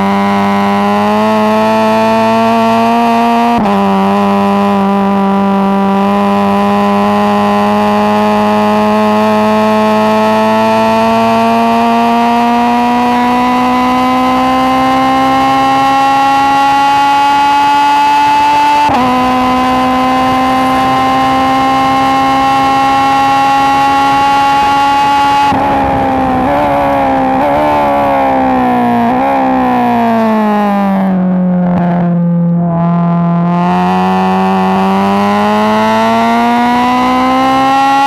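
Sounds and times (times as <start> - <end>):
car engine pulling hard: 0.0 - 38.0.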